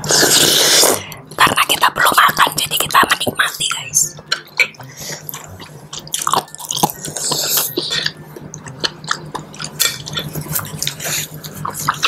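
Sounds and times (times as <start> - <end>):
wet chewing and slurping noodles: 0.0 - 2.4, 4.1 - 12.0.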